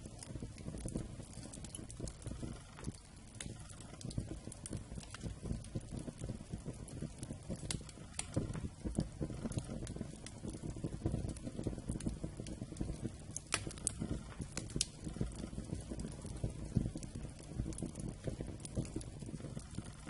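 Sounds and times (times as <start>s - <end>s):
wood fire crackling: 0.0s - 20.0s
wood popping: 0.0s - 20.0s.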